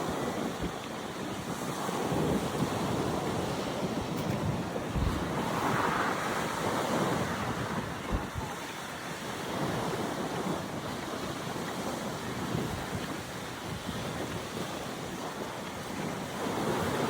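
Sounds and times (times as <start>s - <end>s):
sea waves washing onto beach: 0.0s - 17.0s
wind buffeting microphone: 0.0s - 17.0s.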